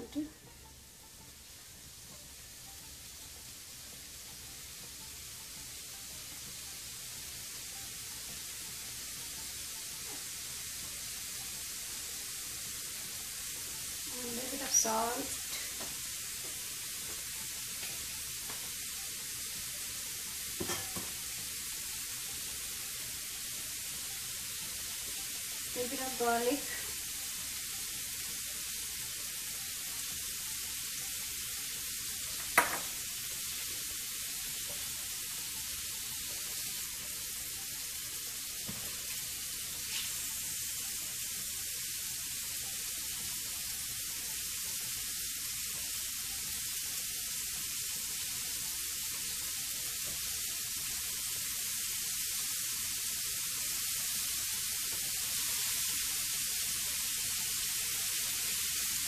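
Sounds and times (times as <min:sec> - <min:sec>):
shrimp sizzling on a griddle: 0:00.0 - 0:59.0.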